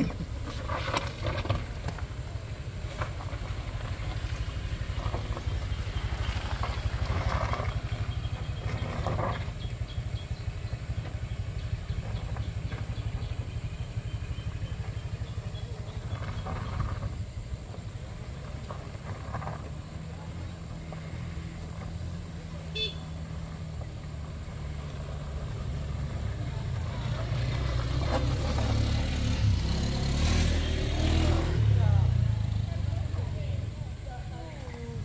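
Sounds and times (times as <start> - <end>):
motor scooter engine: 0.0 - 35.0.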